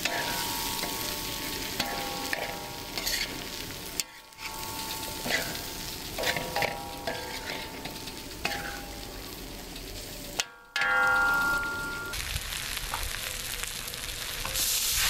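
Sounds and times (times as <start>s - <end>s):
metal spatula scraping a pan: 0.0s - 12.2s
rice sizzling in a pan: 0.0s - 15.0s.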